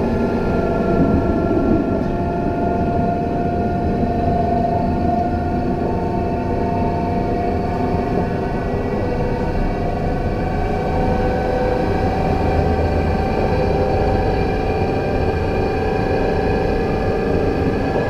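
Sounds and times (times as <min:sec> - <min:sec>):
tram rolling rumble: 0:00.0 - 0:18.0
tram whining tones: 0:00.0 - 0:18.0.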